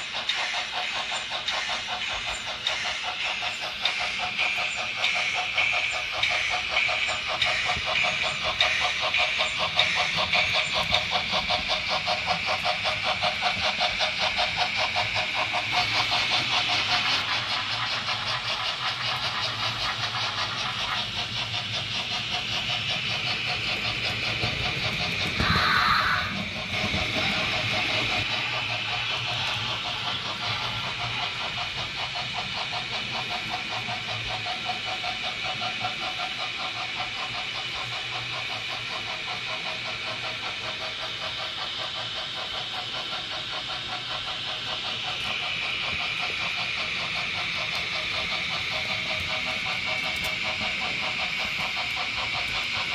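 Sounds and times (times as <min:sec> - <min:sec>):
model train ticking and humming: 0:00.0 - 0:52.9.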